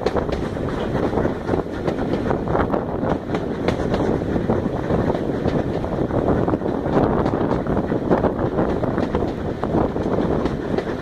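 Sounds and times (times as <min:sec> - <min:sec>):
train coaches rolling on rails: 0:00.0 - 0:11.0
wind buffeting microphone: 0:00.0 - 0:11.0.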